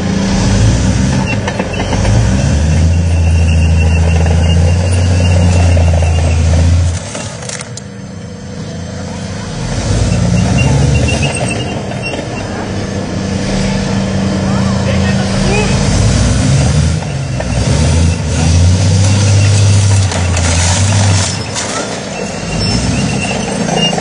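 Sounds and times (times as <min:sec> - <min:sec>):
heavy vehicle engine drone: 0:00.0 - 0:24.0.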